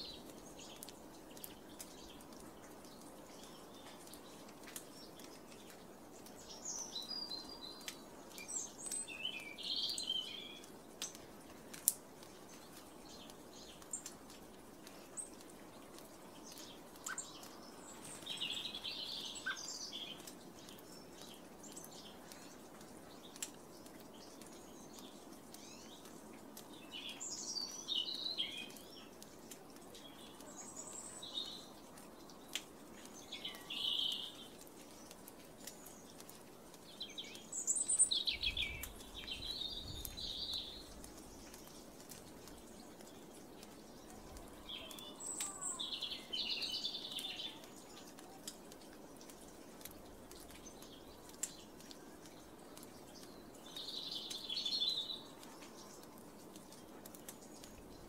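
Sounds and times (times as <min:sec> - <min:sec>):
faint outdoor background: 0:00.0 - 0:58.0
songbirds chirping: 0:00.0 - 0:58.0.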